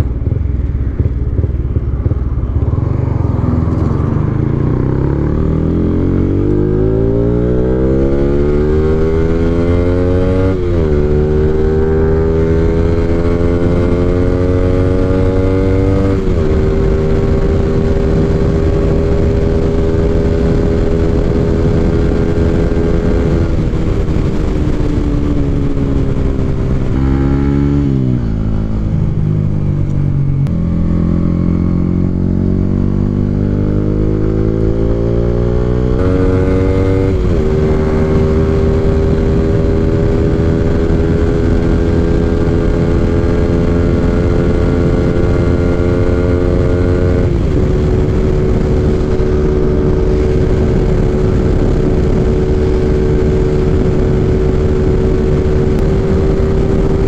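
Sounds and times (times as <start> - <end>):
motorcycle engine revving: 0.0 - 57.0
wind rushing over microphone: 0.0 - 57.0.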